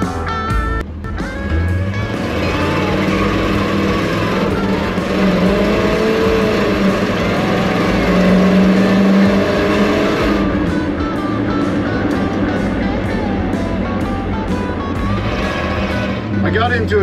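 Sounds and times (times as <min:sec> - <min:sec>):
truck engine accelerating: 0:00.0 - 0:17.0.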